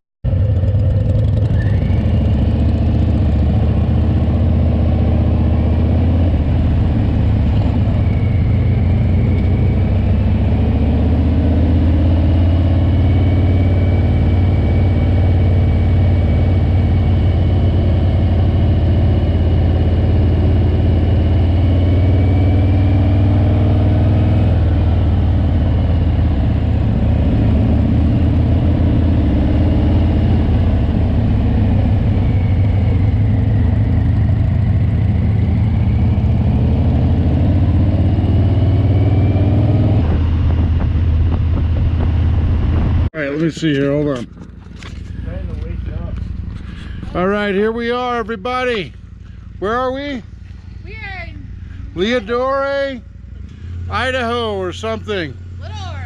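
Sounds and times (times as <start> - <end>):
motorcycle engine rumbling: 0.2 - 56.0.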